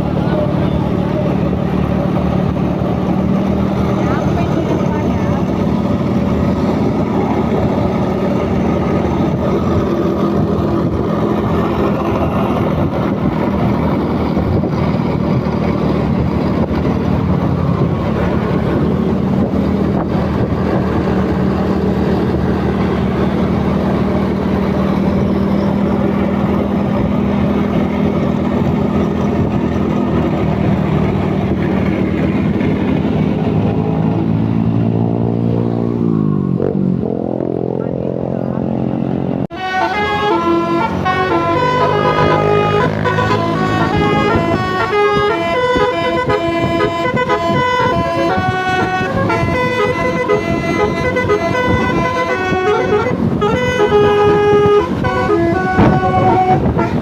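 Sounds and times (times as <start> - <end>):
large vehicle engine running: 0.0 - 57.0.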